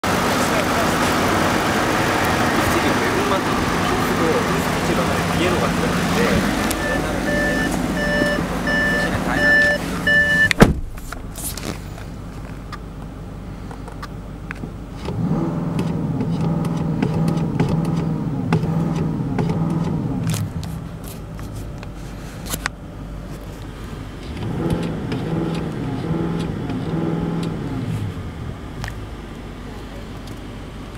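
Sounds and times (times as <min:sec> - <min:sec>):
diesel engine revving: 0:00.0 - 0:12.6, 0:14.8 - 0:30.9.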